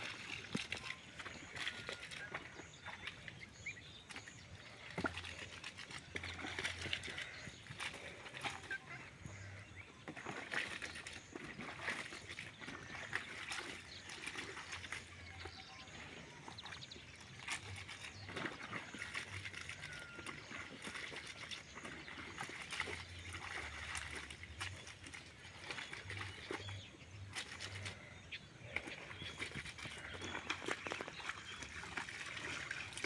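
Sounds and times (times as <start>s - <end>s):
clothes sloshing in water: 0.0s - 33.0s.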